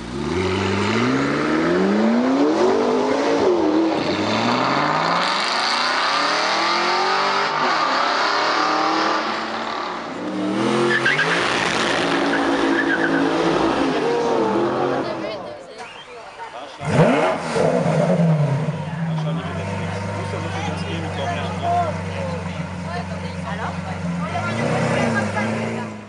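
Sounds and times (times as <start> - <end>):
second car engine revving: 0.0 - 15.4, 16.7 - 26.0
car engine accelerating hard: 0.0 - 15.5, 16.7 - 26.0.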